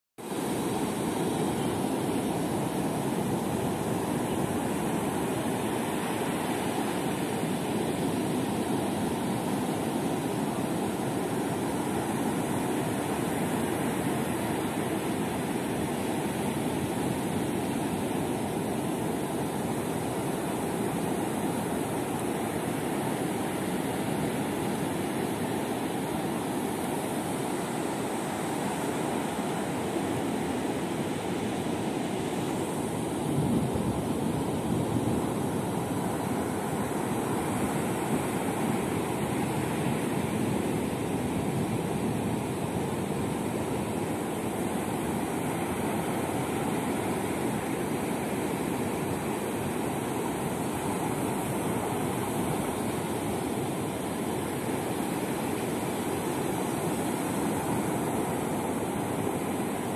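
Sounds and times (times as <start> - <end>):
ocean surf breaking on shore: 0.2 - 59.9.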